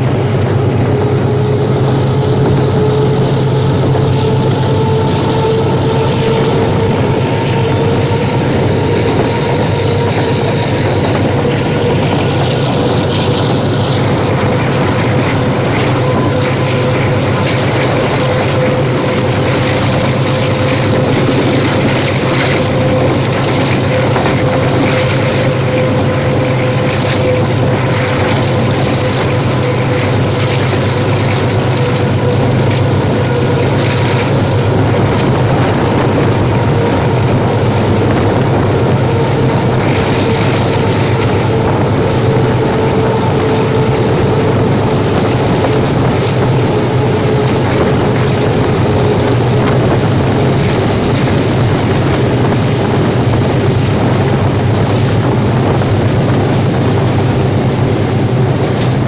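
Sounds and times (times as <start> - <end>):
diesel locomotive engine under load: 0.0 - 59.0.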